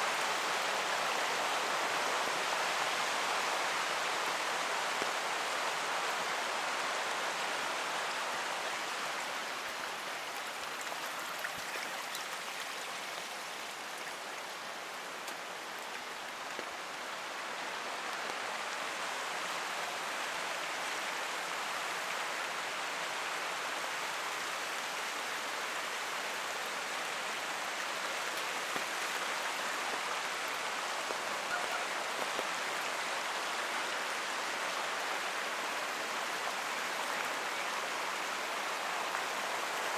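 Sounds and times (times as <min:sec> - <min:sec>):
forest creek rushing: 0:00.0 - 0:39.9
rain falling: 0:00.0 - 0:39.9.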